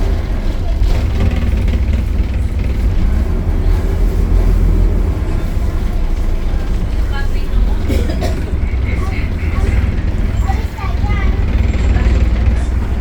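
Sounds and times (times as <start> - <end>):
bus diesel engine rumbling: 0.0 - 13.0.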